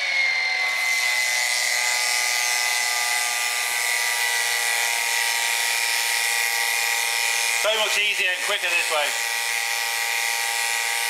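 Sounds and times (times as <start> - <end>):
electric pump motor whine: 0.0 - 11.0.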